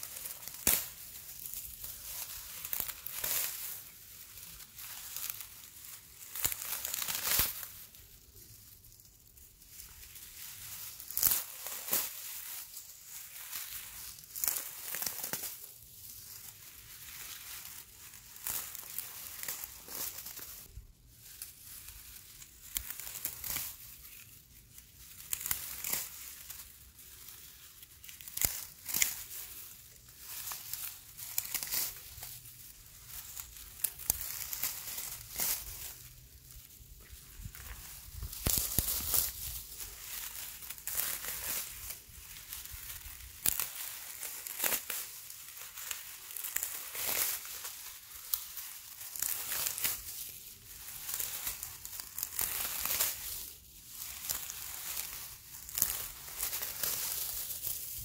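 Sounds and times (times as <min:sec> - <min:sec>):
dry grass crackling and rustling: 0:00.0 - 0:58.0.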